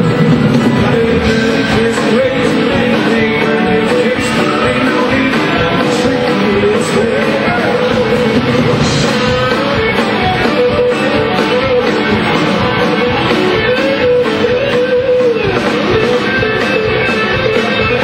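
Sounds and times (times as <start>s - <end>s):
bass guitar: 0.0s - 18.0s
drums: 0.0s - 18.0s
electric guitar solo: 1.2s - 18.0s.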